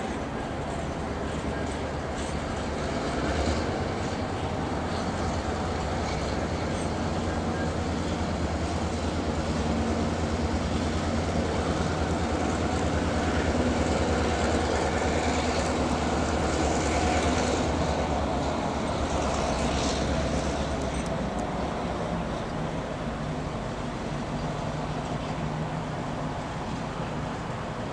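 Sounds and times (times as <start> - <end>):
train wheels rolling on rails: 0.0 - 27.9.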